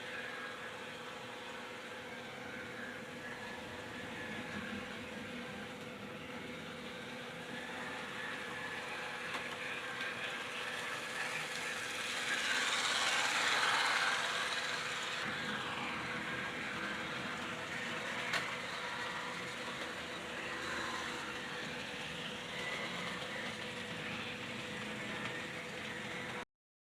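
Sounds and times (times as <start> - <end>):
model train motor whir: 0.0 - 26.4.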